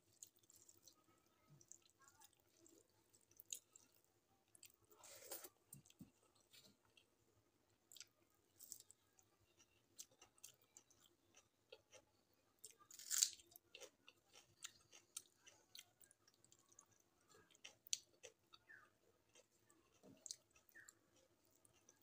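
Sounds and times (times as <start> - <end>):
person chewing crisp food: 0.0 - 7.2, 7.8 - 22.0.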